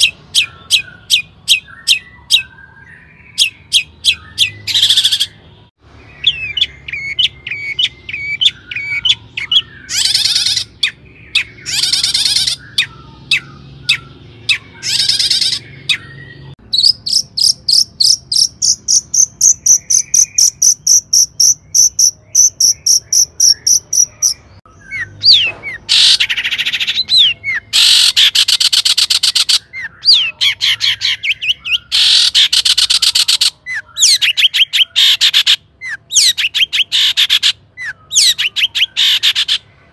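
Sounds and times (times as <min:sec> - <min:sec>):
bird singing chirps and chatter: 0:00.0 - 0:39.9.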